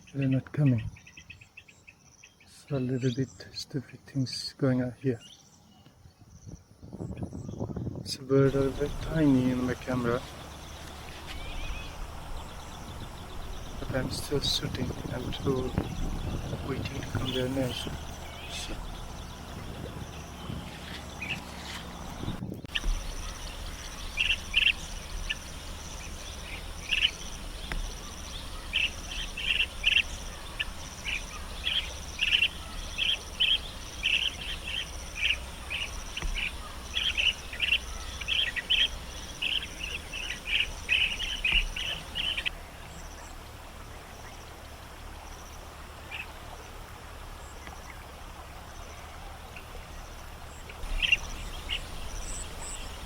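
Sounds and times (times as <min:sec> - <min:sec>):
small birds chirping: 0:00.0 - 0:53.0
low outdoor rumble: 0:08.1 - 0:53.0.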